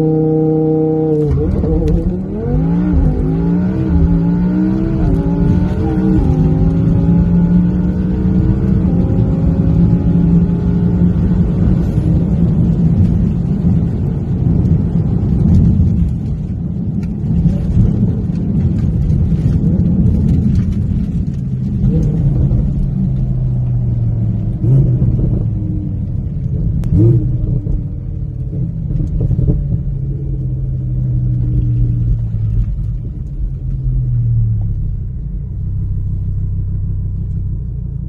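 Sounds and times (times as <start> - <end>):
car engines accelerating hard: 0.0 - 37.4.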